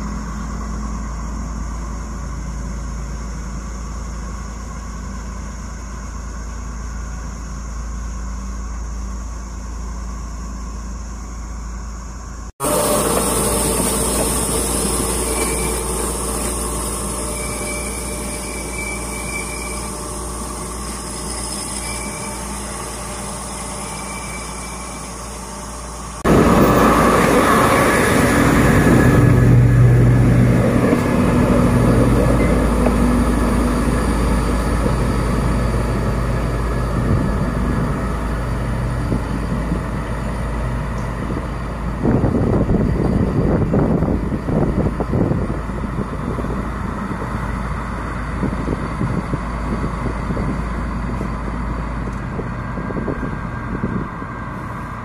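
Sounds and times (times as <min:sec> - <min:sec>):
locomotive engine hum: 0:00.0 - 0:55.0.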